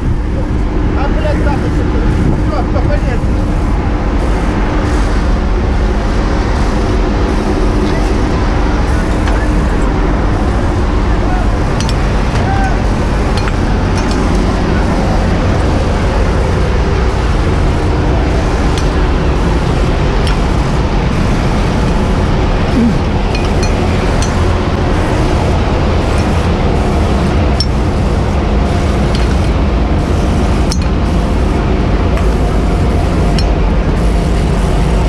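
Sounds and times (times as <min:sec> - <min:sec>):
truck engine droning: 0:00.0 - 0:35.0.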